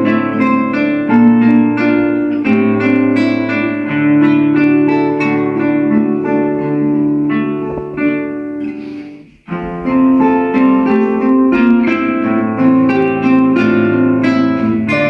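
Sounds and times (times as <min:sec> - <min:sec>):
two guitars playing a duet: 0:00.0 - 0:15.0.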